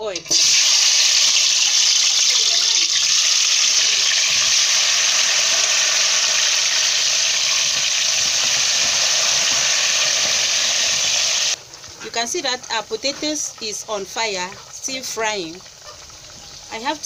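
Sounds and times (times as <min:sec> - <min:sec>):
potato wedges sizzling in oil: 0:00.0 - 0:17.0.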